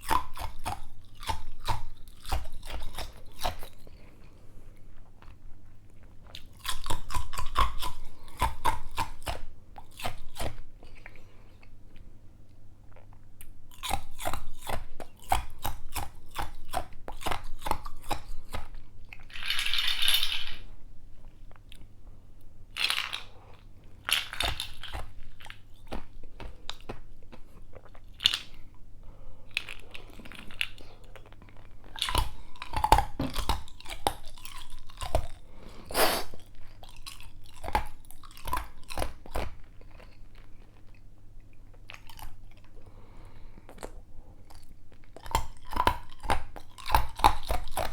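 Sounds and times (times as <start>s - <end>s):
ice crunching being chewed: 0.0s - 20.6s, 22.7s - 47.9s.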